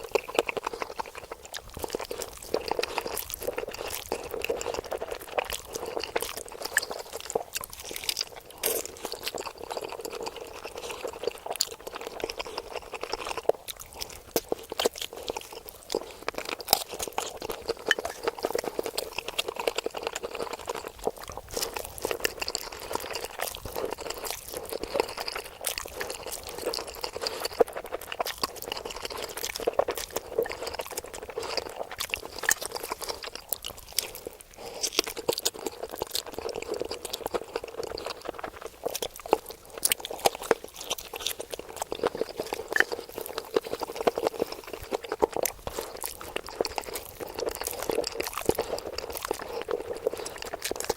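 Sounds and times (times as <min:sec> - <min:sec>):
wet chewing and slurping: 0:00.0 - 0:50.9.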